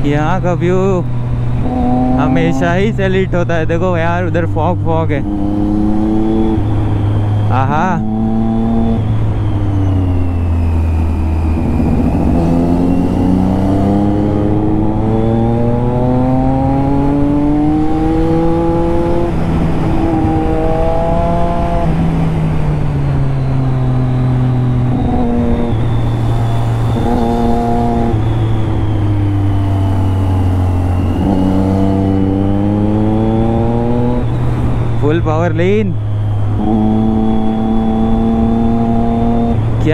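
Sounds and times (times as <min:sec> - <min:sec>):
motorcycle engine revving: 0:01.1 - 0:39.9.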